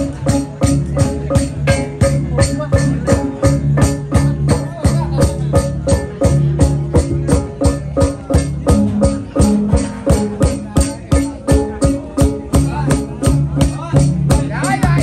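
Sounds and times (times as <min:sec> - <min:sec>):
gong ensemble playing fast beat: 0:00.0 - 0:15.0.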